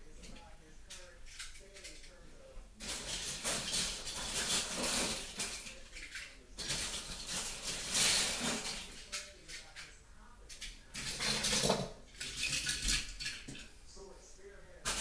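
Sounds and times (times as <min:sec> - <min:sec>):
toy cars clattering: 0:00.2 - 0:02.2, 0:02.8 - 0:09.9, 0:10.5 - 0:13.6.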